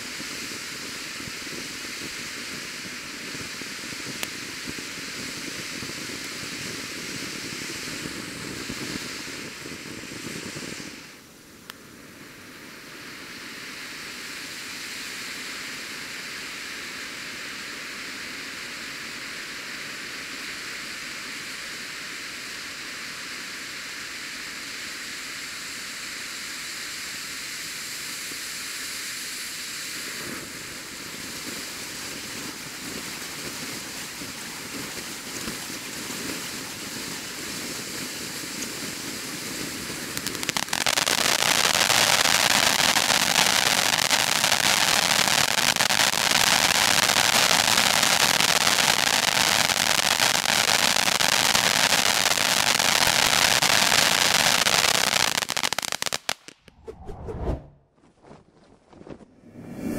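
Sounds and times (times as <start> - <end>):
firework fountain hissing: 0.0 - 56.7.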